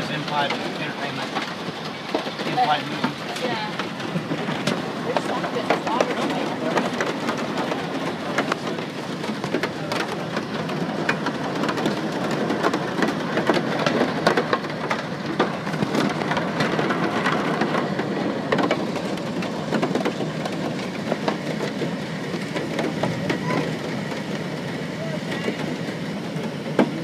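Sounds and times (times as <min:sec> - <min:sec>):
hail hitting fuselage: 0:00.0 - 0:27.0
rain rushing on fuselage: 0:00.0 - 0:27.0.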